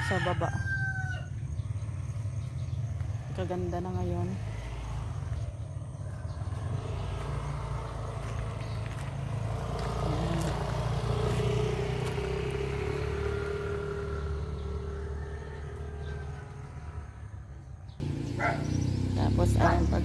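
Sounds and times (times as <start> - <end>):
vehicle engine running: 1.2 - 20.0.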